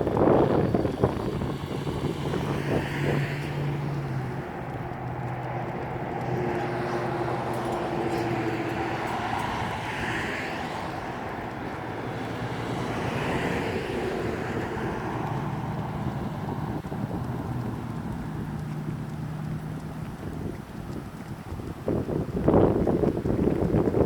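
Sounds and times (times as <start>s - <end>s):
low engine hum: 0.0s - 24.0s
passing cars rushing: 0.0s - 24.0s.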